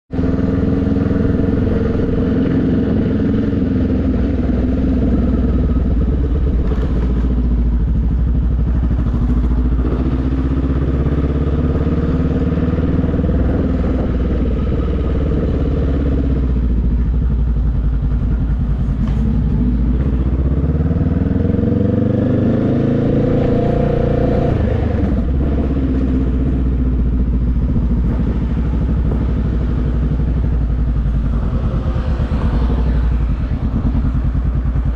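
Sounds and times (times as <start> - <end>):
low rumble: 0.1 - 22.2, 22.8 - 34.9
motorcycle engine accelerating: 0.1 - 34.9.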